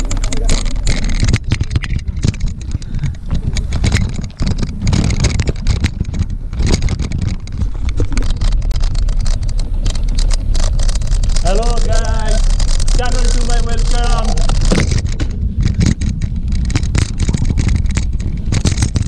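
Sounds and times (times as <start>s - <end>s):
bike rattling clicks and knocks: 0.0s - 19.0s
wind rumble on microphone: 0.0s - 19.0s.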